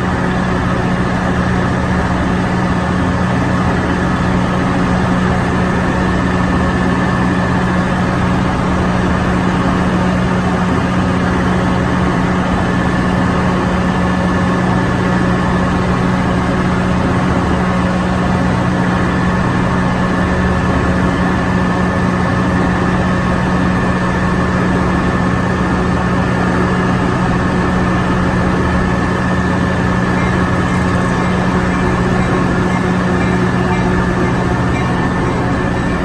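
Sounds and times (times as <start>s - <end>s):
diesel locomotive idling: 0.0s - 36.0s.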